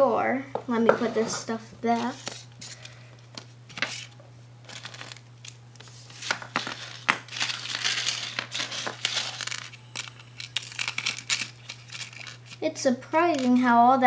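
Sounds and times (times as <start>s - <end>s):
crinkling rustles: 1.9s - 13.7s.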